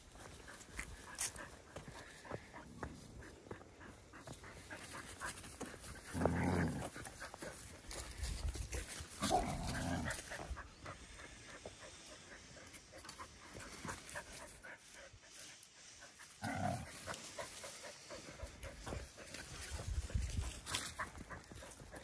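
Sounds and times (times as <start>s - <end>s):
dog panting: 0.0s - 8.8s, 10.1s - 22.0s
scuffling in grass and dry leaves: 0.0s - 22.0s.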